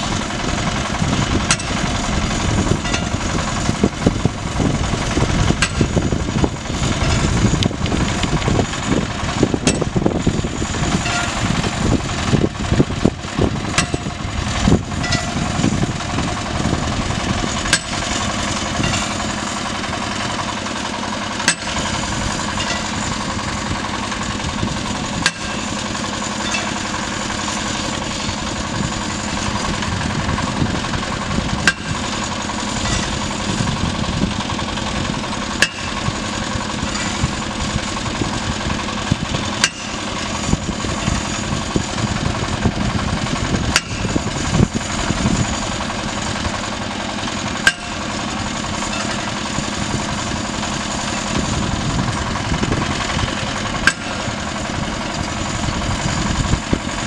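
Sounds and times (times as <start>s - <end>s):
drilling rig engine running: 0.0s - 57.0s.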